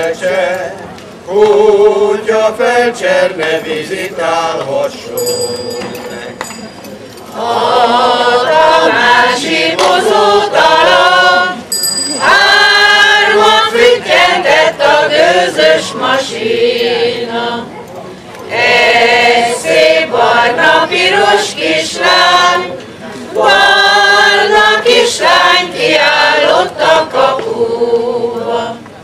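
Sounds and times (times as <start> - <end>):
men and women singing folk song: 0.0 - 6.3, 7.3 - 17.7, 18.5 - 29.0.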